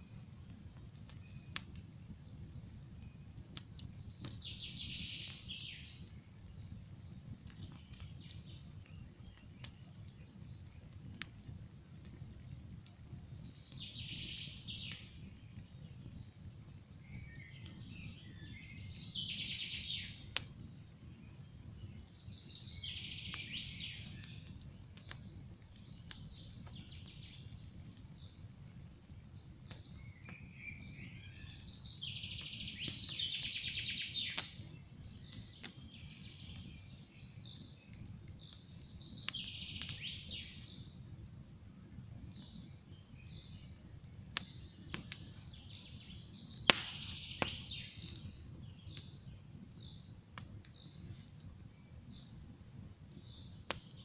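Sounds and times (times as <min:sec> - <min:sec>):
campfire crackling and popping: 0:00.0 - 0:54.0
songbird singing: 0:00.0 - 0:54.0.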